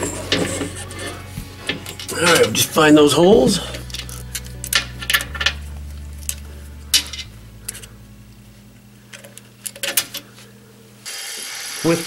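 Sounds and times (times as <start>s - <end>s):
low steady hum: 0.0s - 11.1s.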